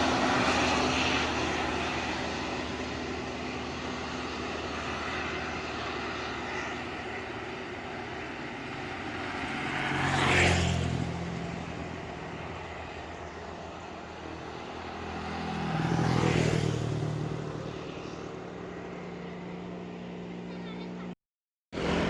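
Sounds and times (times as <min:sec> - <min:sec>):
vehicles driving past uphill: 0:00.0 - 0:21.2, 0:21.8 - 0:22.0.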